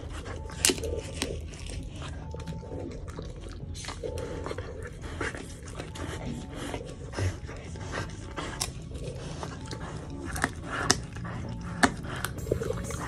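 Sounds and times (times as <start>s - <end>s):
dog chewing with crunches: 0.0s - 13.0s
teeth clicking: 0.0s - 13.0s.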